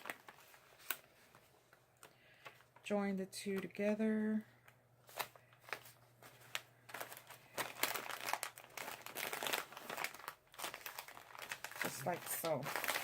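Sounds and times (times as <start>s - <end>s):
paper bag rustling and crinkling: 0.0s - 2.9s, 5.0s - 13.0s.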